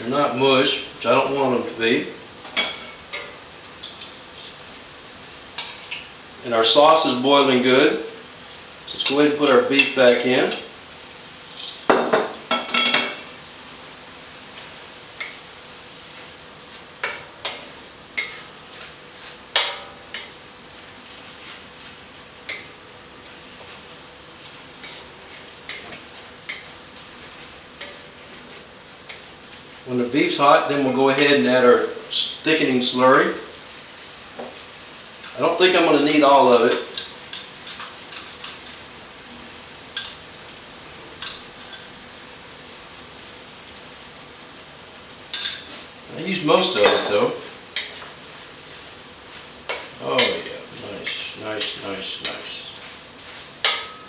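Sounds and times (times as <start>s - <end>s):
boiling sauce hiss: 0.0s - 54.0s
meat sizzling in a pan: 1.9s - 54.0s.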